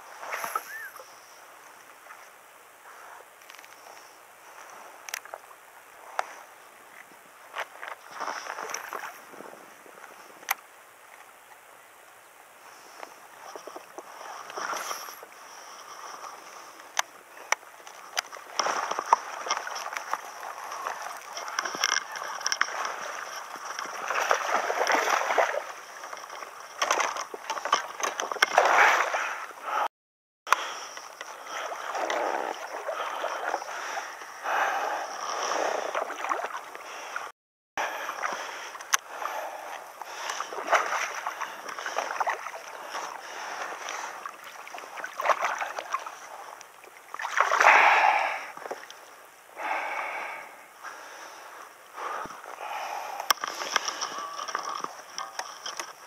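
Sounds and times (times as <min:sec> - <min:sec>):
water splashing and sloshing: 0:00.0 - 0:29.9, 0:30.5 - 0:56.0.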